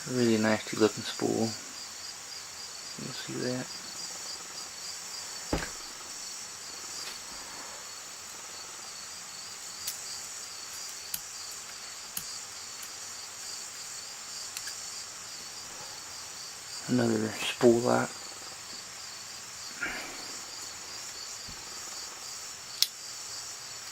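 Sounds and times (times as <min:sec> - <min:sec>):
crickets chirping: 0:00.0 - 0:23.9.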